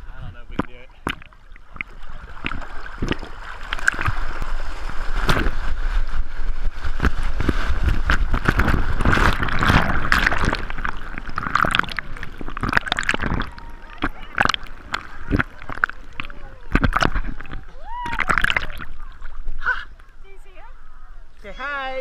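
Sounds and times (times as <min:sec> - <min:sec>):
surf splashing: 0:00.0 - 0:22.0.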